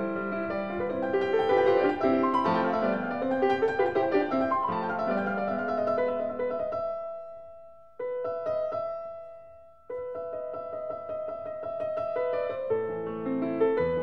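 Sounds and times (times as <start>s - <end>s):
solo piano: 0.0s - 14.0s.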